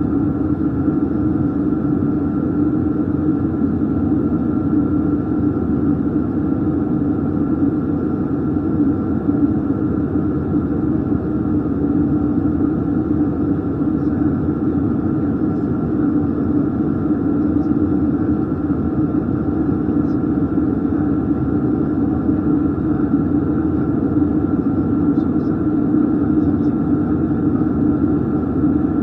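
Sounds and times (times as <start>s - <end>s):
aircraft cabin engine noise: 0.0s - 29.0s.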